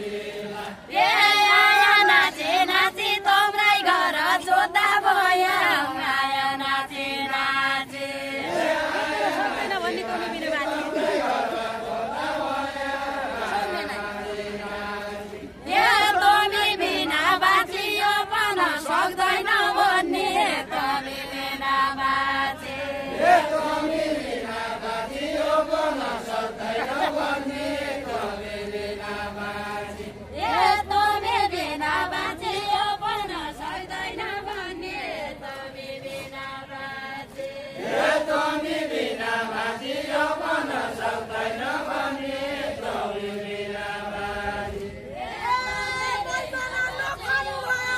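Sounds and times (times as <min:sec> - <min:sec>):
group singing unaccompanied: 0:00.0 - 0:47.9.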